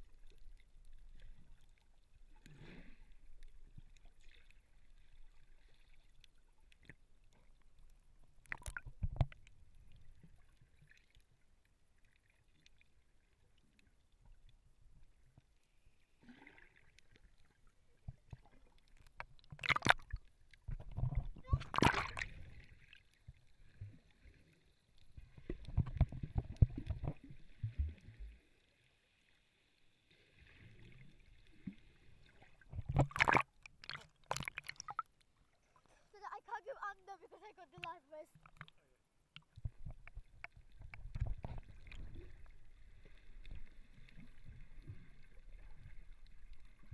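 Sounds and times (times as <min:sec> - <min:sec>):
water rumbling and sloshing: 0:00.0 - 0:36.5, 0:37.7 - 0:46.9.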